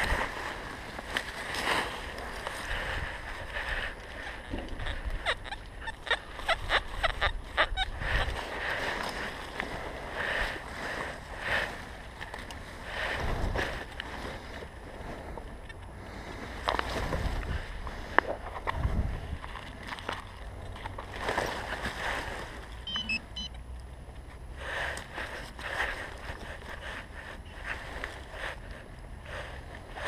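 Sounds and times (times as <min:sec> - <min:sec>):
digging in soil and leaves: 0:00.0 - 0:04.4, 0:06.2 - 0:23.5, 0:24.5 - 0:30.0.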